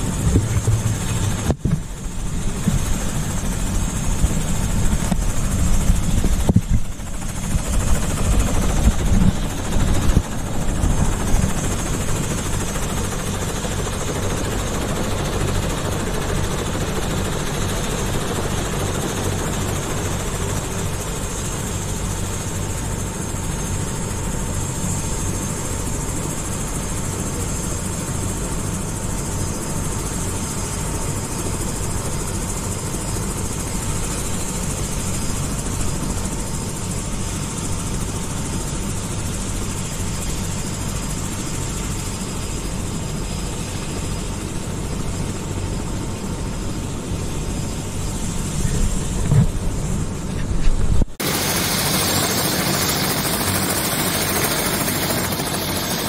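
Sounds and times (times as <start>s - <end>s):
helicopter turbine and rotor running: 0.0s - 56.0s.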